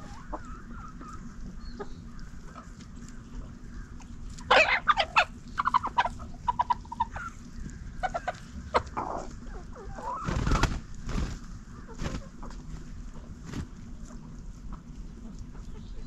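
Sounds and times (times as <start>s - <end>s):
hens clucking and squawking: 0.0s - 16.0s.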